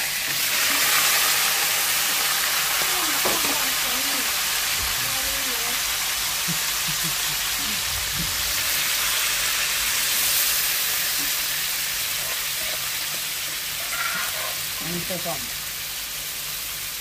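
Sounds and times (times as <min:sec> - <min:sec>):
crab sizzling in a pan: 0:00.0 - 0:17.0.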